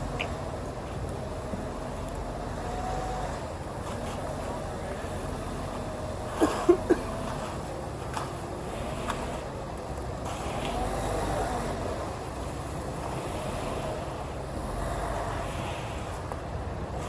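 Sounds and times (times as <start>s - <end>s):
diesel truck engine running: 0.0s - 17.0s
outdoor noise rush: 0.0s - 17.0s.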